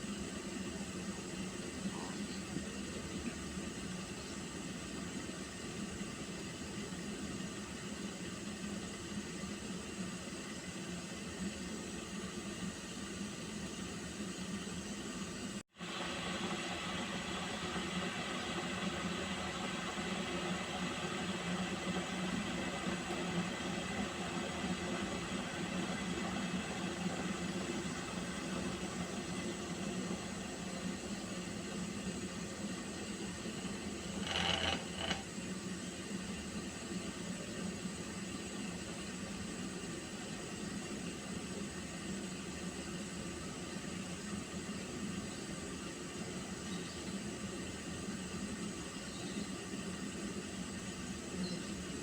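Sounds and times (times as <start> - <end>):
water heating hiss: 0.0 - 52.0.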